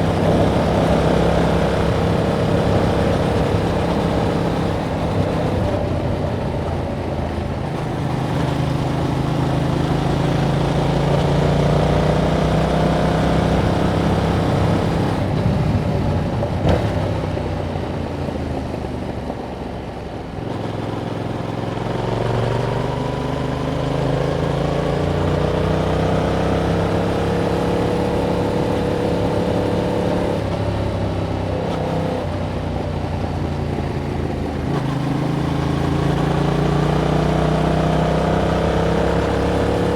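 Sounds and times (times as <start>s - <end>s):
motorcycle engine revving: 0.0s - 17.9s, 20.4s - 39.9s.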